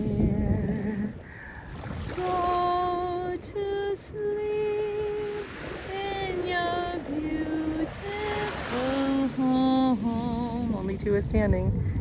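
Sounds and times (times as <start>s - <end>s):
woman singing a wordless lullaby: 0.0s - 1.3s, 2.1s - 11.7s.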